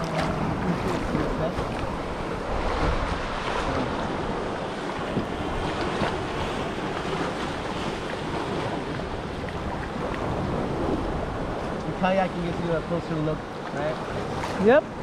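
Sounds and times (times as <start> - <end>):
water lapping against kayak: 0.0 - 15.0
wind buffeting microphone: 0.0 - 15.0.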